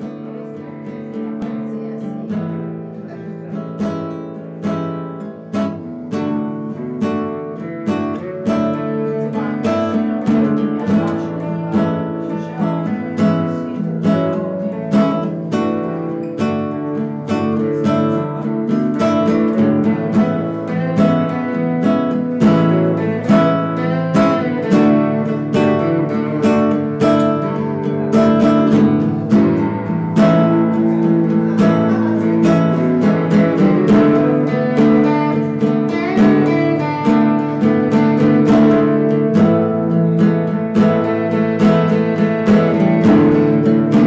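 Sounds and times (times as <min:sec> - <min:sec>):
strummed acoustic guitar: 0:00.0 - 0:44.0.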